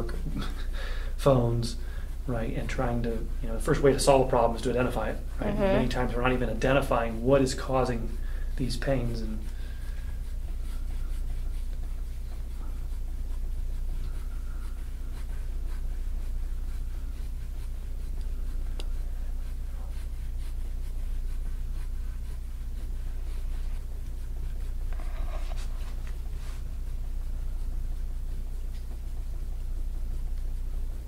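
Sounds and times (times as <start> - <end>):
steady low hum: 0.0 - 31.0
tool scraping across skin: 0.0 - 31.0.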